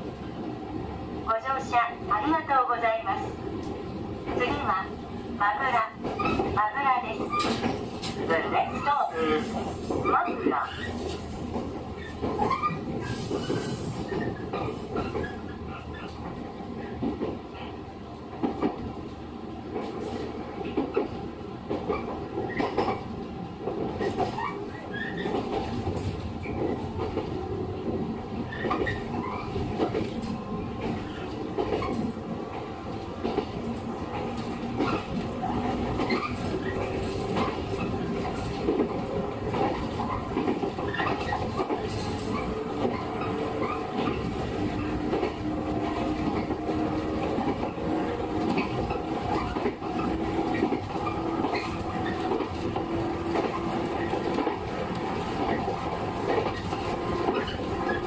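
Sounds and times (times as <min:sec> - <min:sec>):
train carriage rumble: 0:00.0 - 0:58.0.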